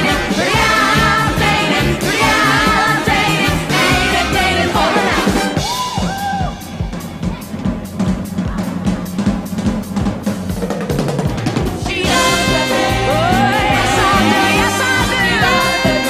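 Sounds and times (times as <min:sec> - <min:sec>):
drum kit snare and rimshots: 0:00.0 - 0:16.0
steady bass line: 0:00.0 - 0:16.0.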